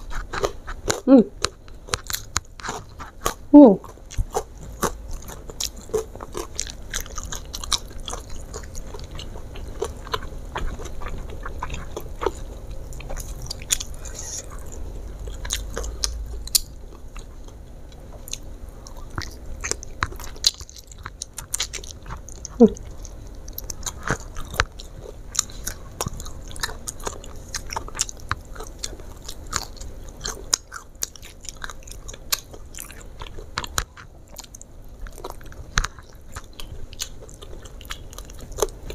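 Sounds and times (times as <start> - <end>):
chewing crispy fried chicken: 0.0 - 38.9.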